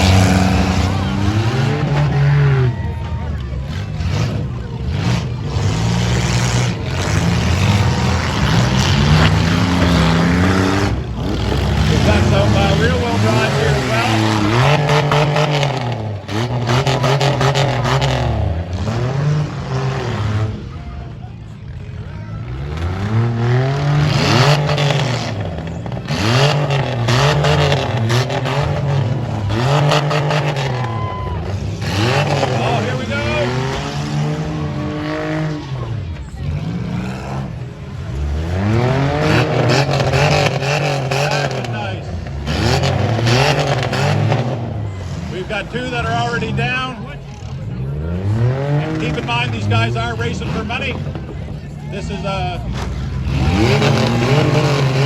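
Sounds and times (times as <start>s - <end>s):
car engines revving hard: 0.0s - 55.0s.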